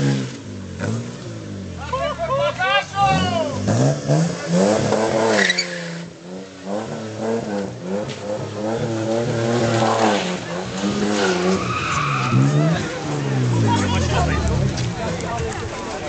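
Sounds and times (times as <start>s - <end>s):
car engine revving hard: 0.0s - 1.8s, 3.0s - 15.0s.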